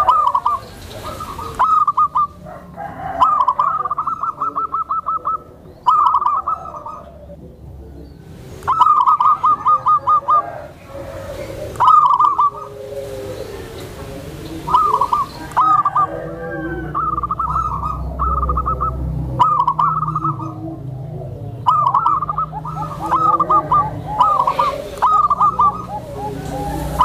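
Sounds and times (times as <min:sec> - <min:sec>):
doves cooing: 0:00.0 - 0:27.0
softer lower coos: 0:00.0 - 0:27.0
steady low hum: 0:03.8 - 0:27.0.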